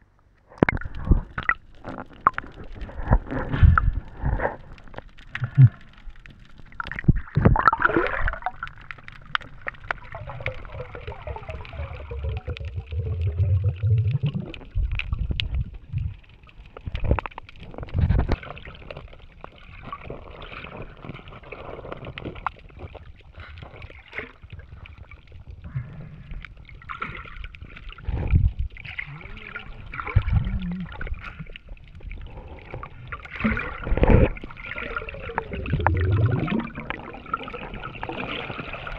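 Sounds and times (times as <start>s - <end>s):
underwater gurgling and rumbling: 0.0s - 38.9s.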